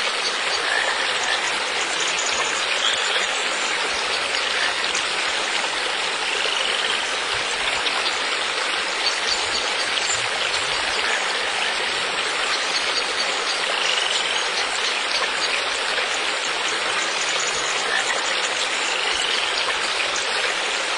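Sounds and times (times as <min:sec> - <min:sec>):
running water: 0:00.0 - 0:20.9.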